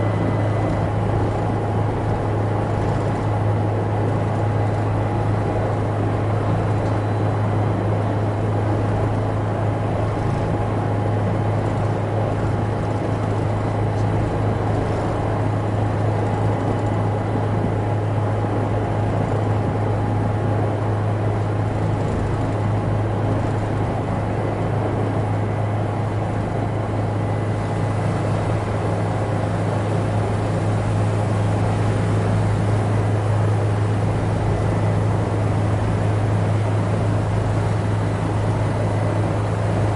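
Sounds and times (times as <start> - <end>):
faint steady whine: 0.0 - 39.9
helicopter engine and rotor drone: 0.0 - 39.9.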